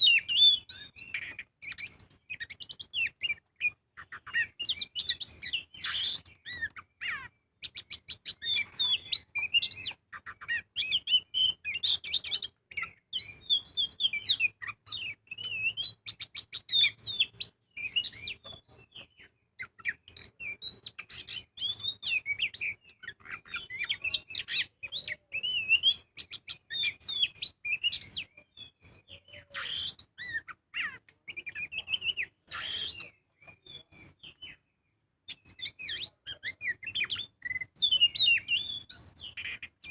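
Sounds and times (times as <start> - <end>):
harsh rasping bird calls: 0.0 - 34.6, 35.3 - 39.9
bird singing whistled song: 0.0 - 39.9.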